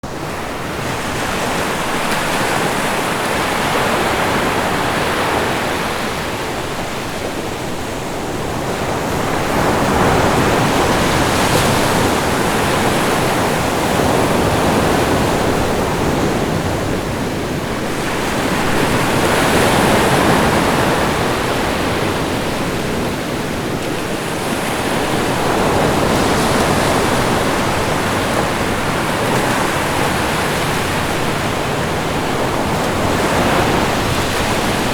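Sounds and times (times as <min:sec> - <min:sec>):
waves crashing: 0:00.0 - 0:34.9.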